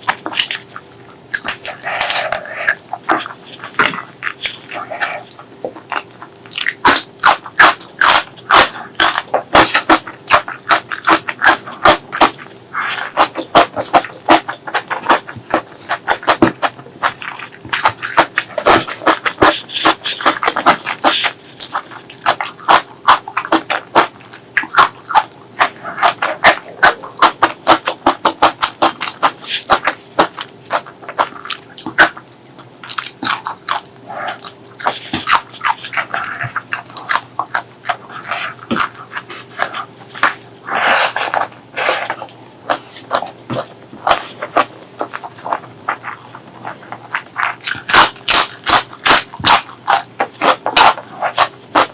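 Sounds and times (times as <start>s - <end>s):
faint steady hum: 0.0s - 51.9s
wet chewing and lip-smacking: 0.0s - 51.9s
slurping or crunching: 1.3s - 51.9s.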